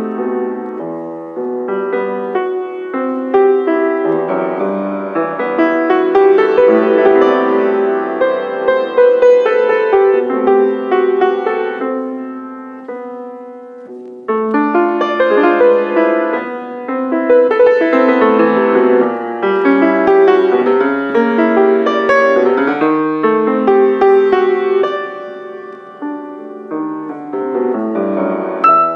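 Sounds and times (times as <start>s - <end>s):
grand piano playing: 0.0s - 28.9s.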